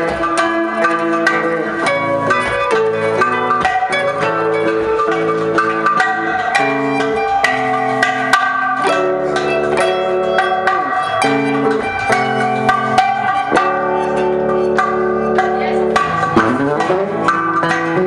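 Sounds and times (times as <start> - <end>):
bongos struck by hand: 0.0 - 18.0
instruments holding notes: 0.0 - 18.0
plucked acoustic guitar: 0.0 - 18.0.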